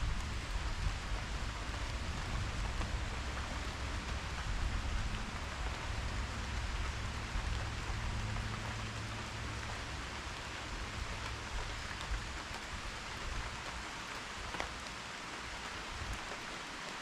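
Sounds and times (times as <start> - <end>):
low steady rumble: 0.0 - 15.2
rain falling: 0.0 - 17.0.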